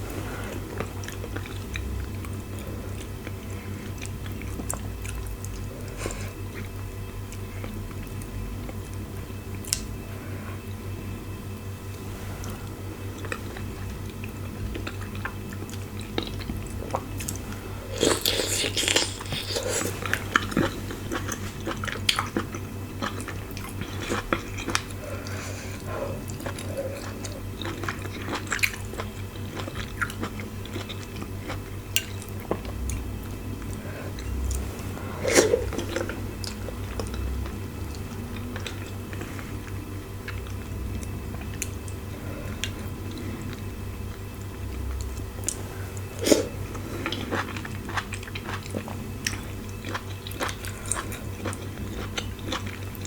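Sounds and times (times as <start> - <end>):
close chewing and mouth smacks: 0.0 - 10.8, 11.5 - 53.0.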